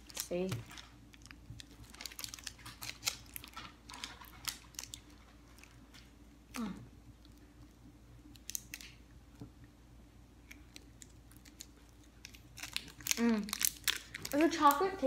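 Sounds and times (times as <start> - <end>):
plastic wrapper crackling: 0.0 - 9.0, 10.5 - 15.0.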